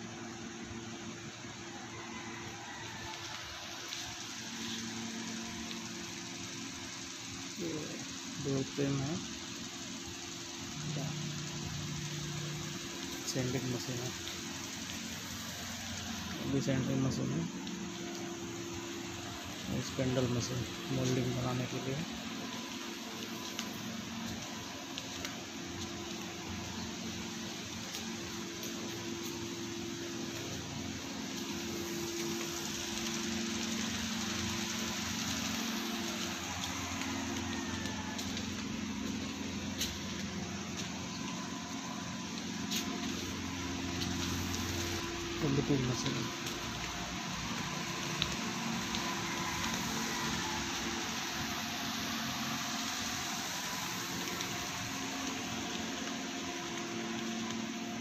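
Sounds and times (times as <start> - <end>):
woodworking machinery running: 3.0 - 58.0.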